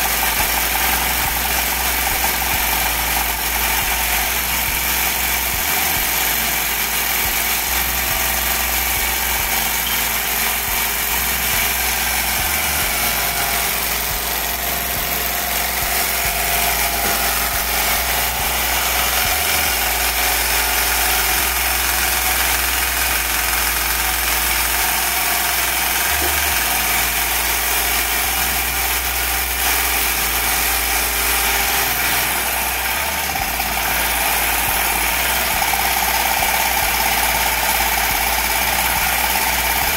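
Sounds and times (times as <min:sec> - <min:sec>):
small engine whirring: 0:00.0 - 0:39.9.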